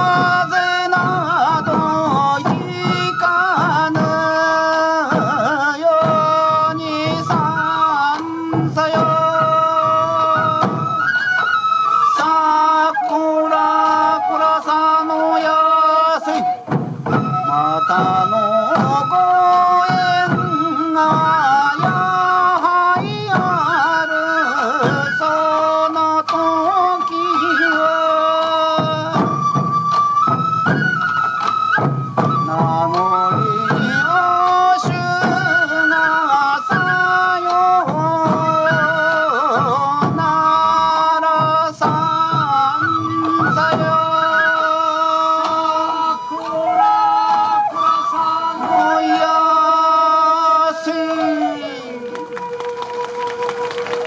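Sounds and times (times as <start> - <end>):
taiko drums beating: 0.0 - 15.5, 16.3 - 48.0, 52.0 - 54.0
bamboo flutes playing: 0.0 - 54.0.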